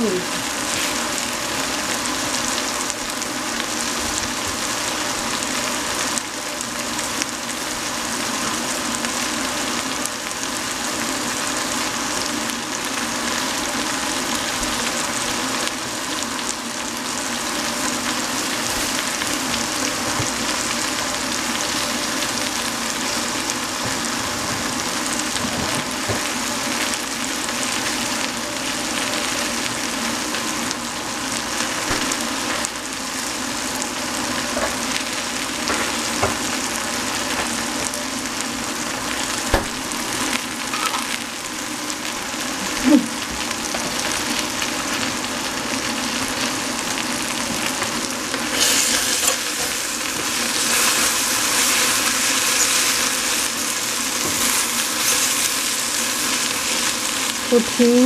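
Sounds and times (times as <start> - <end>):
vegetables sizzling in hot oil: 0.0 - 58.0.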